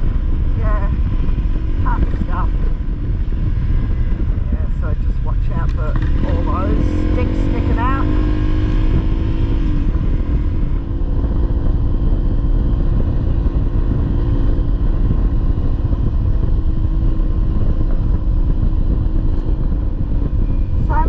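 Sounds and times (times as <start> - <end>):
dirt bike engine running: 0.0 - 21.0
heavy low rumble: 0.0 - 21.0.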